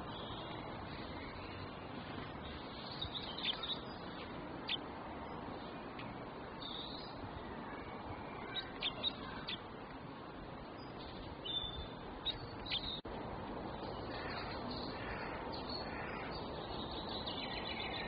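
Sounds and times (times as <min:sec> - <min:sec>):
songbirds chirping: 0:00.0 - 0:18.0
steady background hiss: 0:00.0 - 0:18.0.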